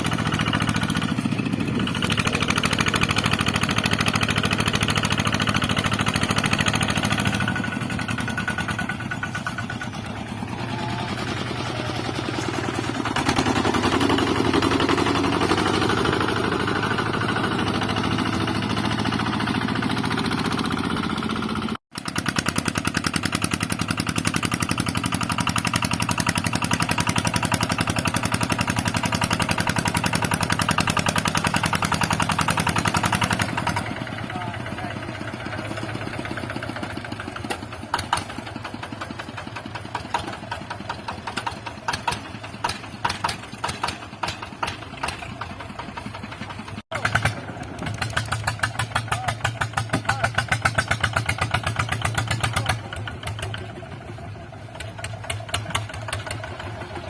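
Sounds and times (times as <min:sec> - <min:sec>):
tractor engines running: 0:00.0 - 0:57.0.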